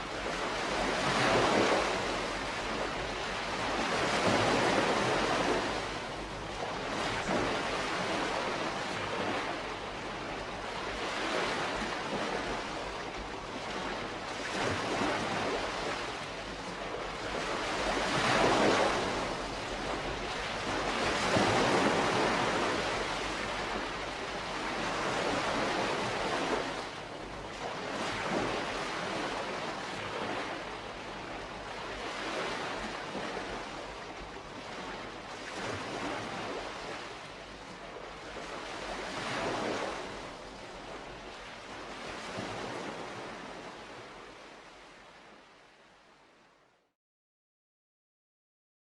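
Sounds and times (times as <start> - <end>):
small waves washing: 0.0 - 45.8.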